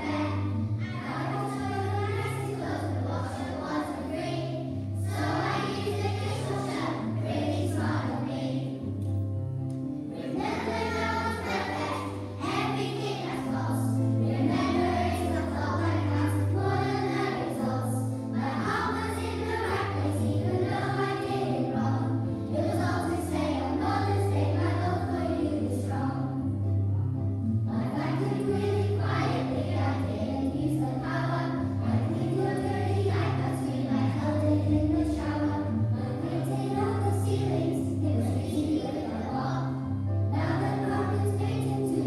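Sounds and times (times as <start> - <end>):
children singing in unison: 0.0 - 8.9, 10.1 - 26.4, 27.7 - 42.0
instrumental accompaniment with bass: 0.0 - 42.0.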